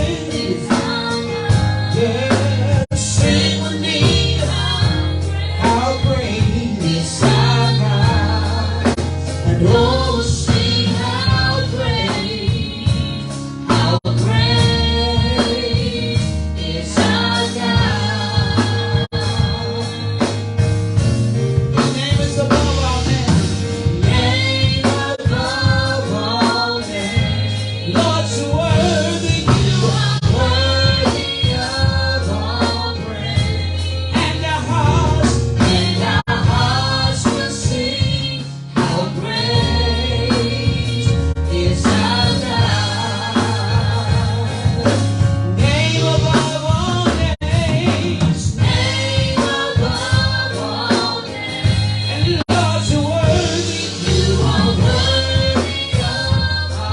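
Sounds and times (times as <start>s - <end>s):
bass line: 0.0s - 56.9s
drum beat: 0.0s - 56.9s
gospel worship music: 0.0s - 56.9s.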